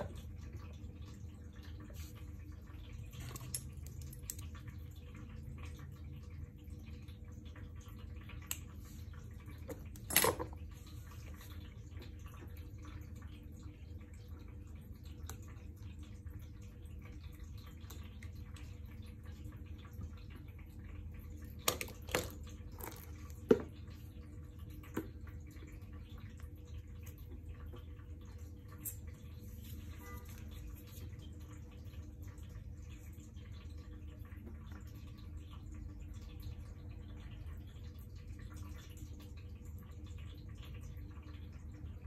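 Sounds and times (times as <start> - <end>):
low background hum: 0.0 - 42.0.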